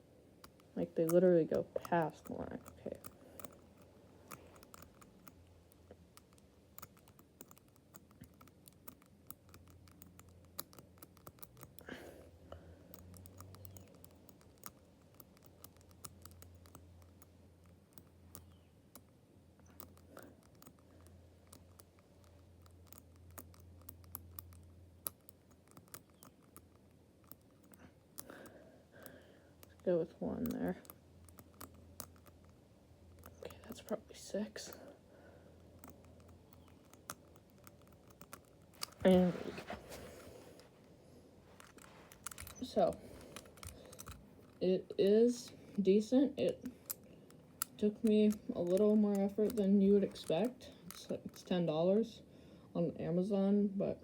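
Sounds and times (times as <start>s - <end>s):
padlock wheels clicking: 0.4s - 34.9s, 35.5s - 39.2s, 41.5s - 51.6s.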